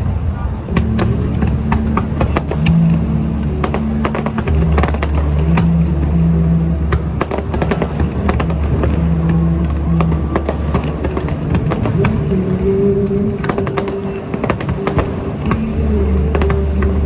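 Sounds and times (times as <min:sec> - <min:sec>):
fireworks bangs and crackles: 0:00.0 - 0:17.0
music with low bass: 0:00.0 - 0:17.0.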